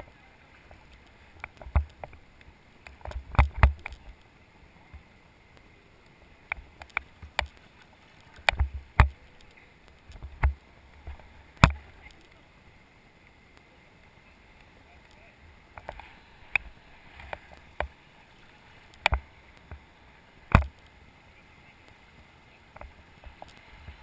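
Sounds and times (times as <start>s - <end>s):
faint water noise: 0.0s - 24.0s.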